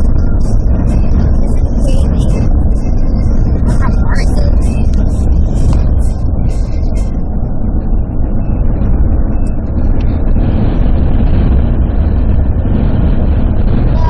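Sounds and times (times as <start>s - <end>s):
road and wind noise in car: 0.0s - 14.0s.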